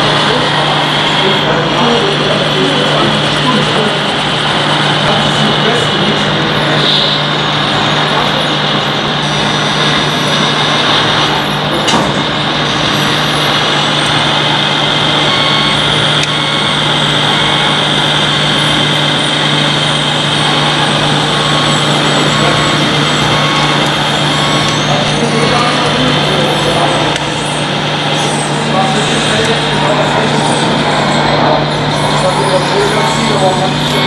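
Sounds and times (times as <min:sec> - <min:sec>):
toy truck motor humming and whining: 0:00.0 - 0:34.0.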